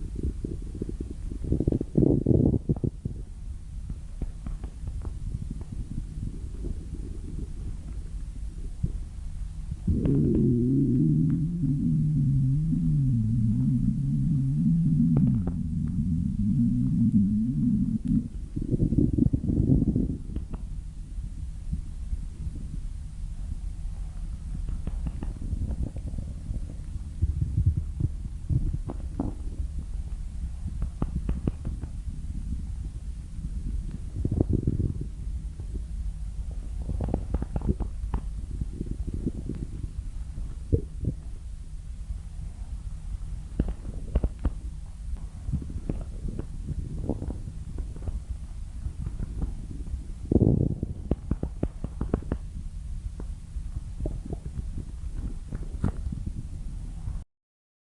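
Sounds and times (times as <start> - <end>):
stomach growling: 0.0 - 3.3, 4.2 - 9.2, 9.8 - 20.7, 23.9 - 41.3, 43.5 - 52.5, 53.9 - 57.2.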